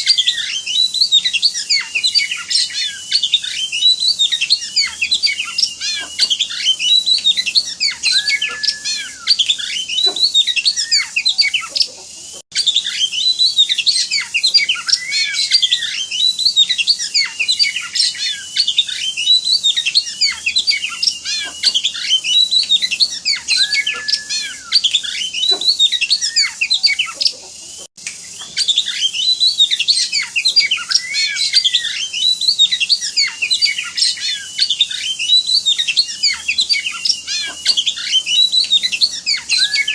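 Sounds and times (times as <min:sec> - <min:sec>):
songbird whistles and chirps: 0:00.0 - 0:39.9.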